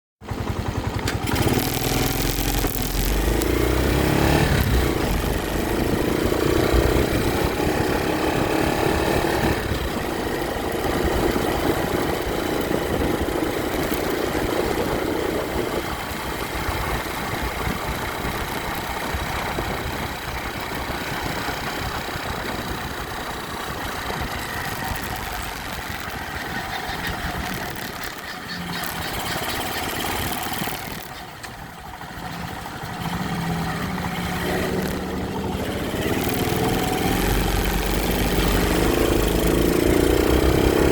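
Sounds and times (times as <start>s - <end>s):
motorcycle engine running: 0.2s - 40.9s.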